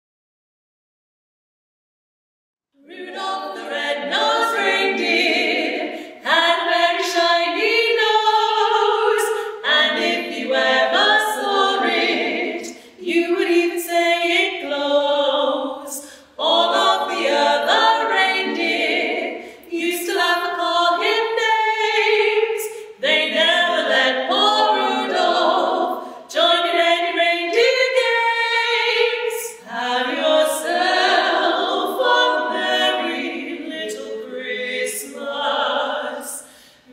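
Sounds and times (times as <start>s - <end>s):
female a cappella trio singing: 2.8s - 36.9s.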